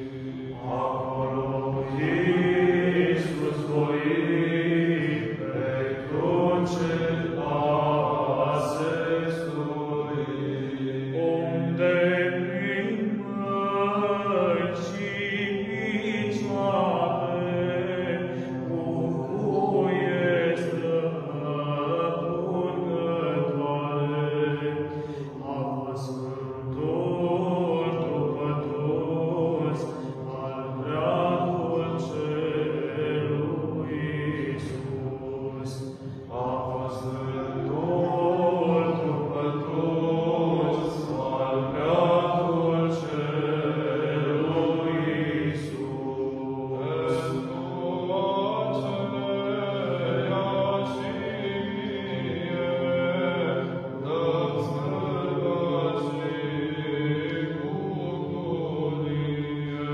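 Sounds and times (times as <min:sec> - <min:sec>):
low vocal drone: 0:00.0 - 0:59.9
men's choir chanting: 0:00.0 - 0:59.9.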